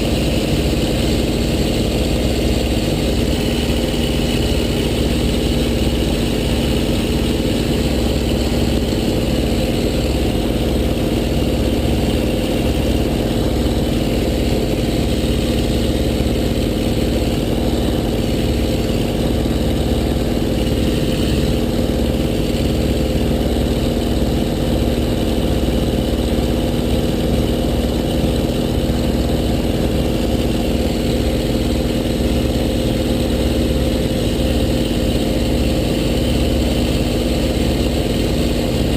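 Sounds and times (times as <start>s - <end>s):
electric motor and propeller: 0.0s - 38.9s.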